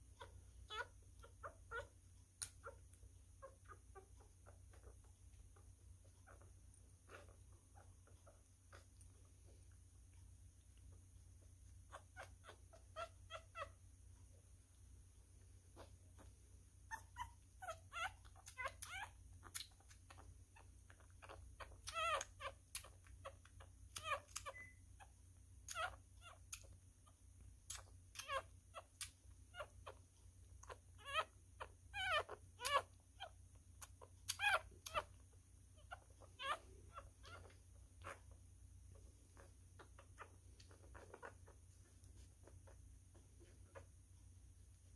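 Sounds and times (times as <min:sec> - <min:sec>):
puppy squeaking and whimpering: 0:00.0 - 0:09.8, 0:10.8 - 0:14.4, 0:15.7 - 0:44.0.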